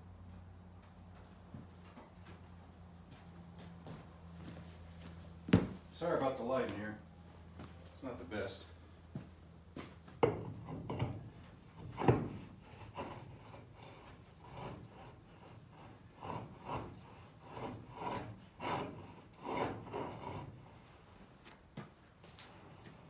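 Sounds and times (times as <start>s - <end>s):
wheel tire rubbing and scraping: 1.1s - 23.0s.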